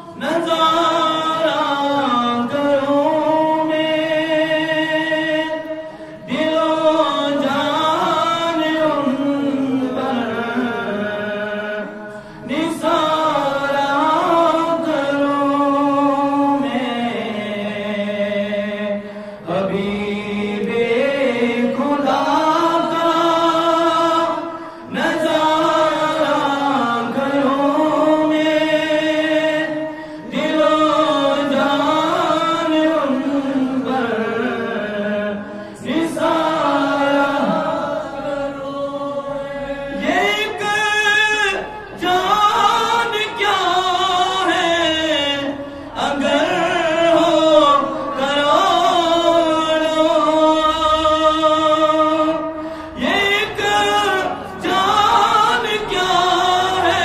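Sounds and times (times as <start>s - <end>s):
man chanting devotional verse: 0.0s - 57.0s.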